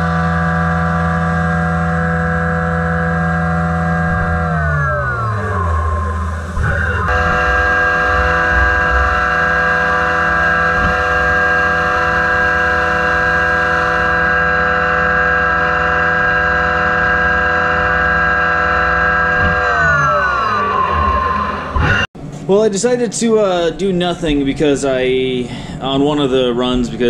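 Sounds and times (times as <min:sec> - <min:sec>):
machine spindle high whine: 0:00.0 - 0:22.1.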